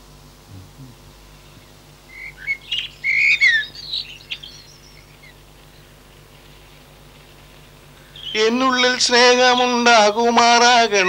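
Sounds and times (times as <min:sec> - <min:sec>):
birds chirping: 0:00.5 - 0:11.0.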